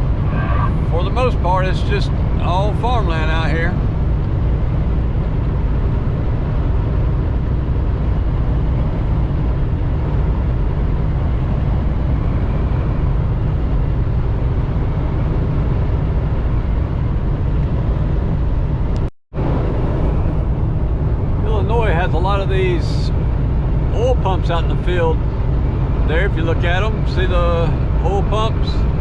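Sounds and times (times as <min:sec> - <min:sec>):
road noise: 0:00.0 - 0:29.0
truck engine drone: 0:00.0 - 0:29.0
wind noise: 0:00.0 - 0:29.0.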